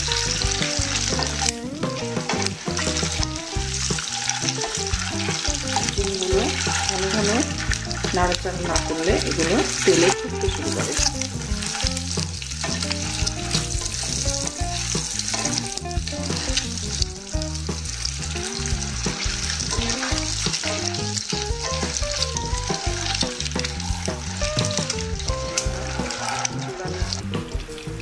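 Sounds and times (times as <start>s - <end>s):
wooden spatula clicks and scrapes: 0.0s - 27.8s
eggs sizzling in oil: 0.0s - 28.0s.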